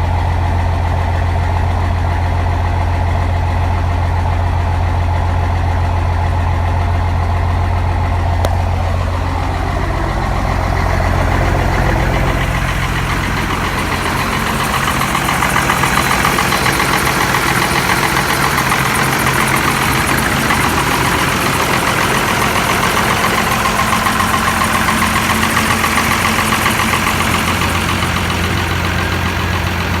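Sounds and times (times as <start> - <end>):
diesel engine idling with clatter: 0.0 - 30.0.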